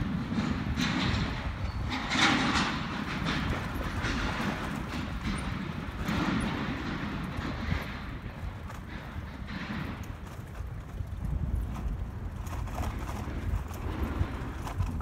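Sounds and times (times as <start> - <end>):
bicycle rattling over bumpy asphalt: 0.0 - 15.0
wind rumbling on microphone: 0.0 - 15.0.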